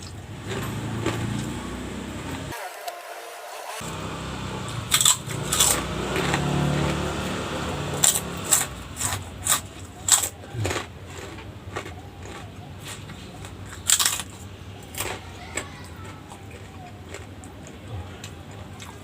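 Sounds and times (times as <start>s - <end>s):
crunchy chewing of crisp food: 0.0s - 2.6s, 4.0s - 19.0s.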